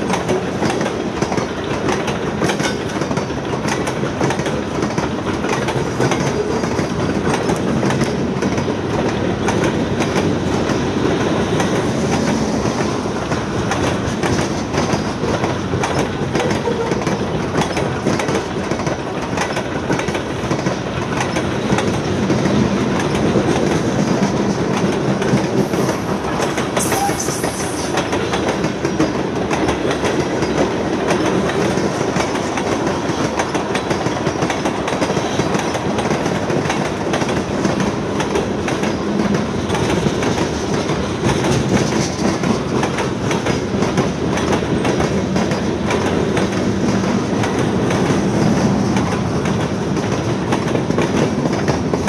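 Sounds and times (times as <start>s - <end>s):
train wheels clattering over rails: 0.0s - 52.0s.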